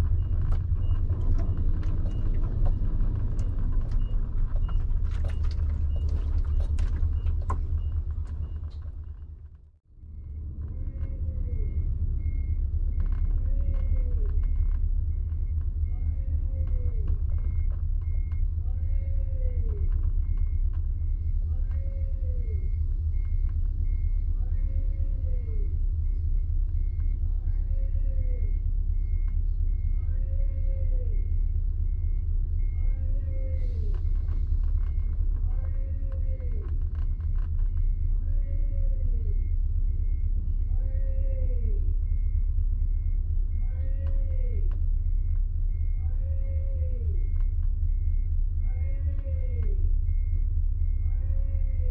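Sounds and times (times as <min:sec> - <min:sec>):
reversing alarm beeping: 0:00.0 - 0:09.4, 0:10.0 - 0:51.9
diesel engine rumbling: 0:00.0 - 0:51.9.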